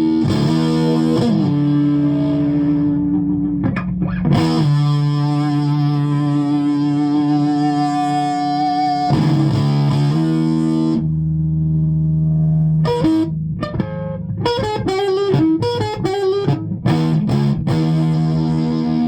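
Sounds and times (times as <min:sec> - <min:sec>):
electric guitar with flanging sound: 0:00.0 - 0:19.0.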